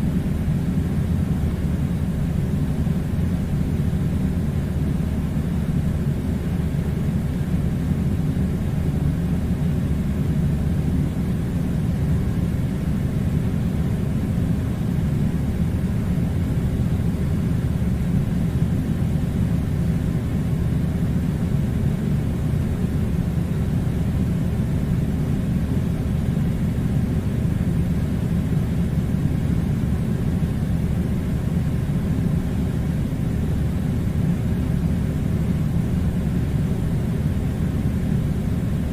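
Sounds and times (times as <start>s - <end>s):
air conditioner drone: 0.0s - 38.9s.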